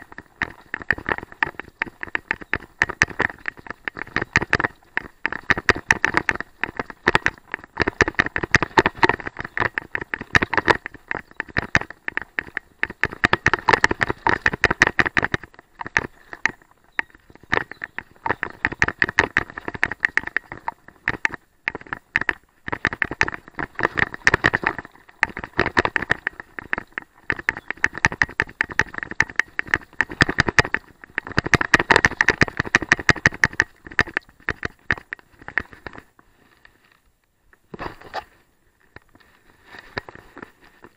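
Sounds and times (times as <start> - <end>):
tyre noise on dirt: 0.0 - 40.9.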